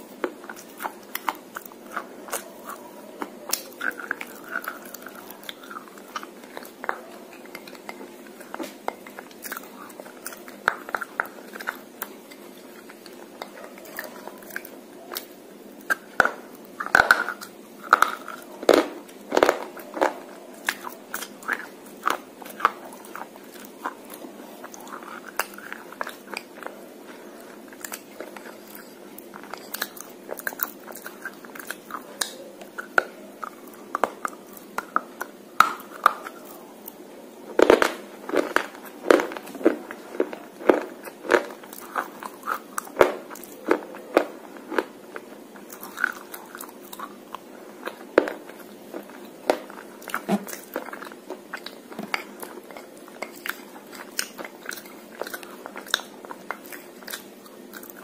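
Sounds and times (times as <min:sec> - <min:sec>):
chewing brittle pencil crunches: 0:00.2 - 0:58.0.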